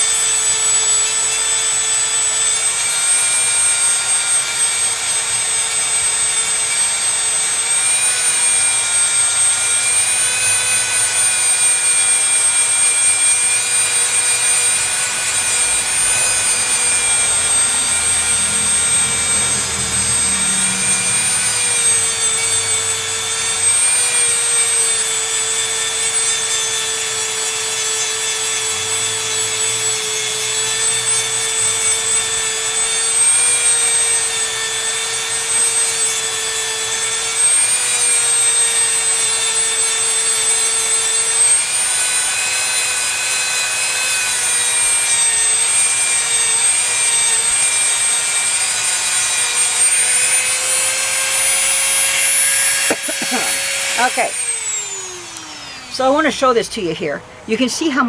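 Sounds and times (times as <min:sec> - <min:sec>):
rotary tool grinding: 0:00.0 - 0:56.4.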